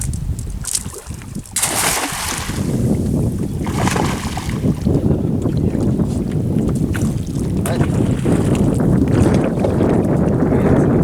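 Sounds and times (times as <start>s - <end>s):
wind rumbling on microphone: 0.0s - 11.0s
water splashing: 0.7s - 10.2s.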